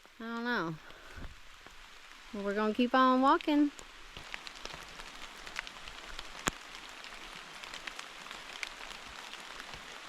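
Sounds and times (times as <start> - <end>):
rain pattering: 0.0 - 10.0.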